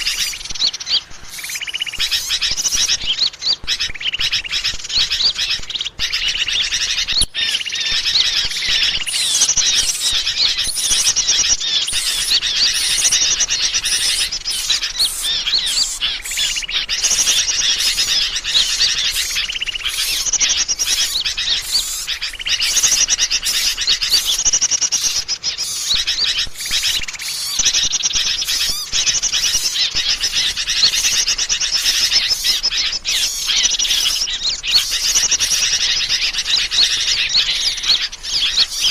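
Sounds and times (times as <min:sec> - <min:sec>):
many small birds chirping: 0:00.0 - 0:38.9.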